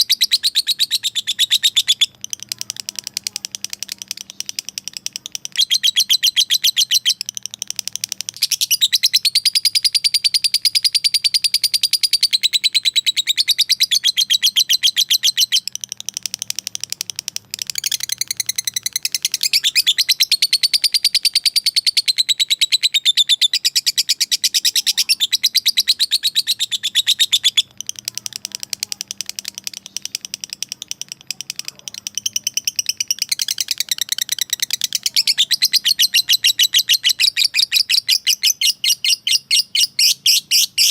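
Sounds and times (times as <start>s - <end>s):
lovebird shrill trilling: 0.0s - 40.9s.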